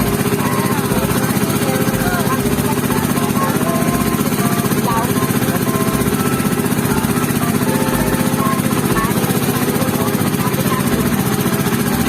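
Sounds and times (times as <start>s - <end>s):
motorboat engine chugging: 0.0s - 12.0s.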